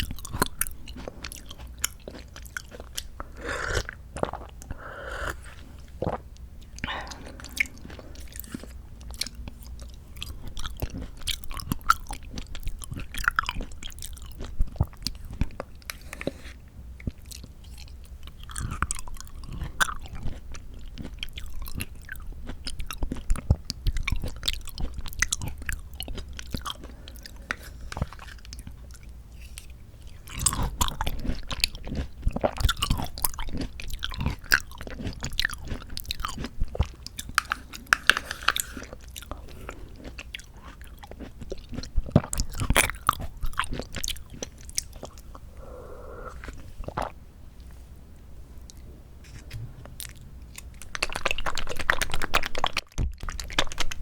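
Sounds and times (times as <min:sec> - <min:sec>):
chewing with mouth clicks: 0:00.0 - 0:47.8, 0:48.6 - 0:54.0.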